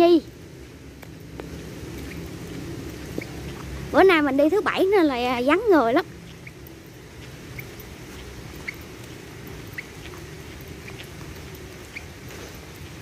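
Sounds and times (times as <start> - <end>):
wet sandals squeaking: 1.0 - 13.0.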